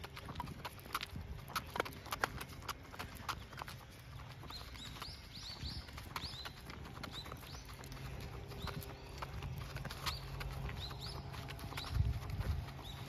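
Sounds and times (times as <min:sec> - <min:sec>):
dog paws tapping on pavement: 0:00.0 - 0:13.0.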